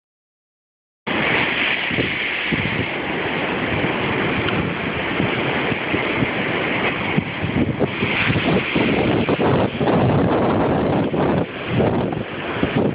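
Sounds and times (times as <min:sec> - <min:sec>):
surf crashing against cliffs: 0:01.1 - 0:12.9
wind buffeting microphone: 0:01.1 - 0:12.9.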